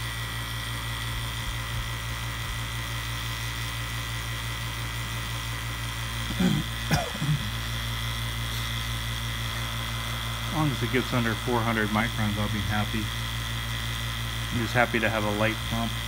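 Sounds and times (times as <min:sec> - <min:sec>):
vacuum pump running: 0:00.0 - 0:16.0.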